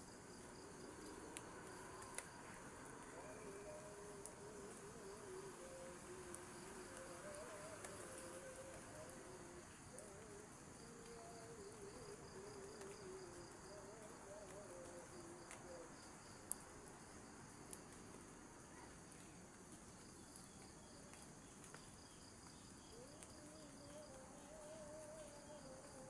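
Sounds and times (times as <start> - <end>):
crickets and insects chirring: 0.0 - 26.0.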